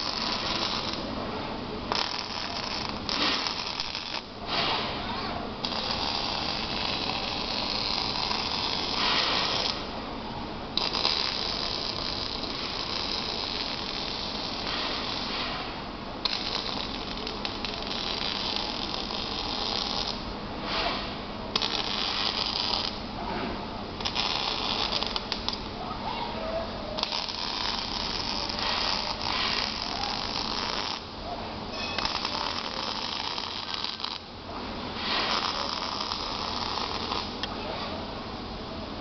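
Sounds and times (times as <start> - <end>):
welding arc crackling: 0.0 - 23.2, 23.8 - 25.8, 27.0 - 37.6.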